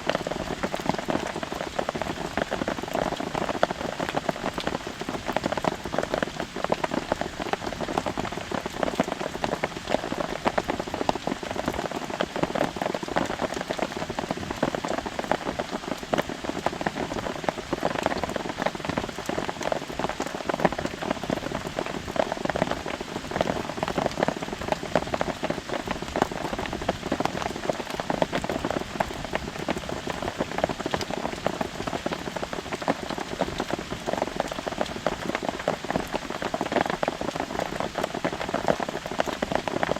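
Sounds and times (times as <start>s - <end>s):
rain on a tarp: 0.0s - 39.9s.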